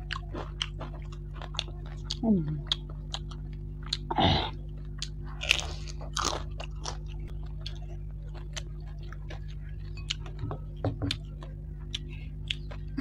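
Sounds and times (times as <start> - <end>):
chewing and crunching fish: 0.0 - 13.0.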